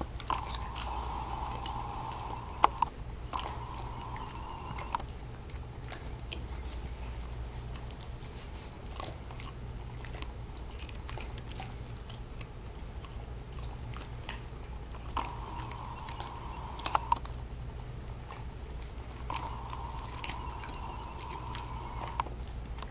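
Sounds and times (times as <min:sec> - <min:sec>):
crunching clicks: 0:00.0 - 0:06.4, 0:08.9 - 0:17.4, 0:18.0 - 0:22.9
dog chewing: 0:00.0 - 0:22.9.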